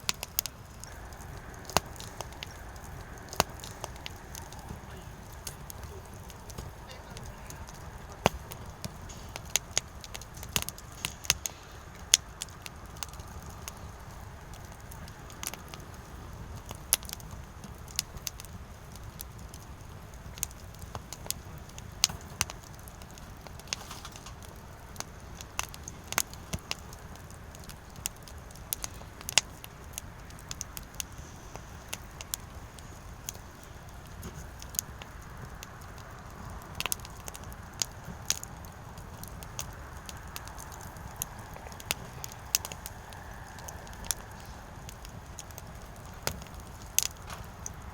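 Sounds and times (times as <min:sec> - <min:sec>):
firewood crackling and popping: 0:00.0 - 0:47.9
low rumble of flames: 0:00.0 - 0:47.9.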